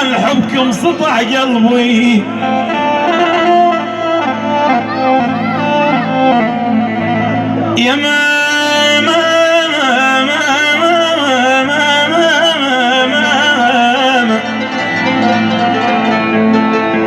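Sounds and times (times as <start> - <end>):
ornamented folk melody: 2.0 - 8.0, 8.6 - 17.0.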